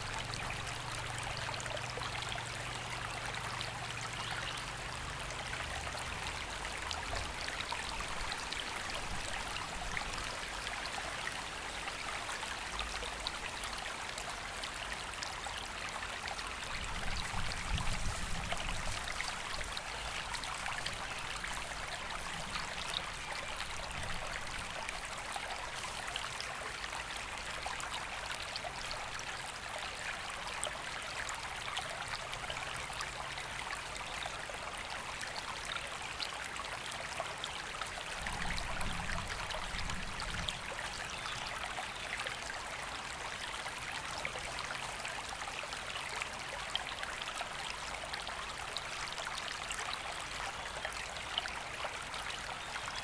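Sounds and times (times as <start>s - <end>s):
river water flowing over stones: 0.0s - 53.0s.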